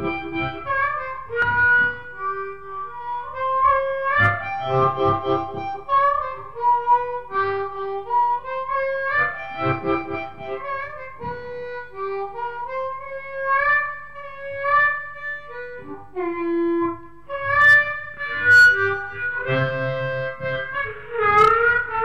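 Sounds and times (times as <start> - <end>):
harmonica playing blues melody: 0.0 - 22.0.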